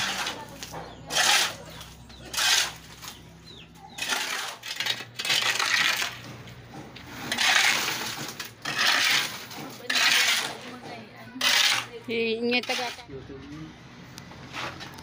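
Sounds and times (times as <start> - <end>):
shovel scraping concrete: 0.0 - 6.4, 7.0 - 13.1.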